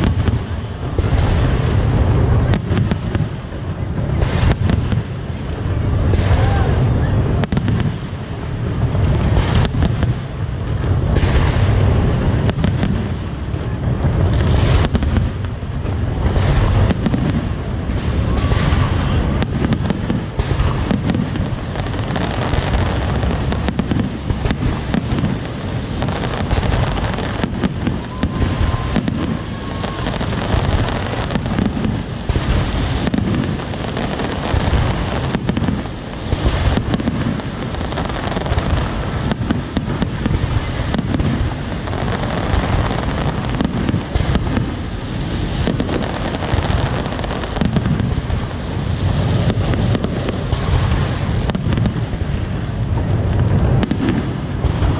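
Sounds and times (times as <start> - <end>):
fireworks bangs and booms: 0.0 - 54.9.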